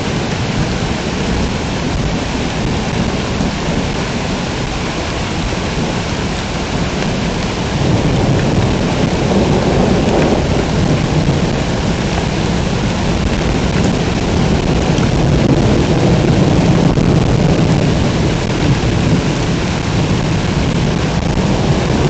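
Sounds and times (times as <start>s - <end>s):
heavy rain pouring: 0.0s - 22.0s
thunder rumbling: 0.0s - 22.0s.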